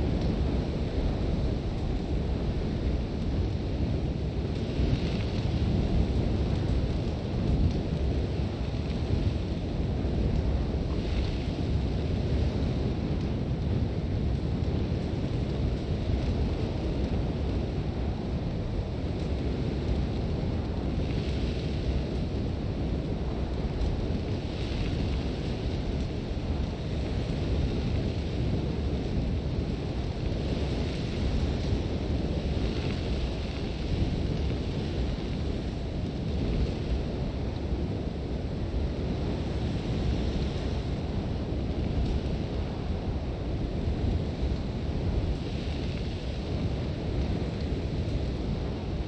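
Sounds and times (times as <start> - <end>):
strong wind rumbling: 0.0 - 49.0.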